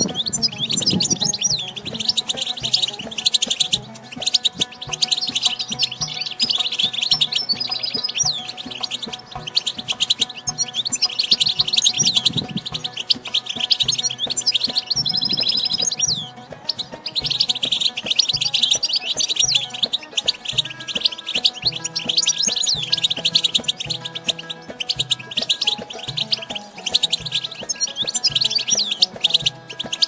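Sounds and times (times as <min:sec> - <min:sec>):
goldfinch twittering song: 0:00.0 - 0:30.0.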